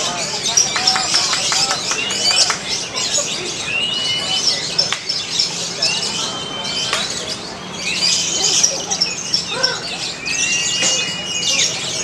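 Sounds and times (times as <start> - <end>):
lovebirds chattering and chirping: 0.0 - 12.0.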